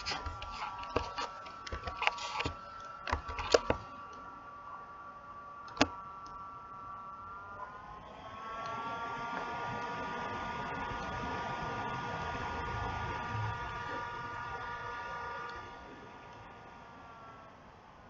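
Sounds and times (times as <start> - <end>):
steady high hum: 0.0 - 18.0.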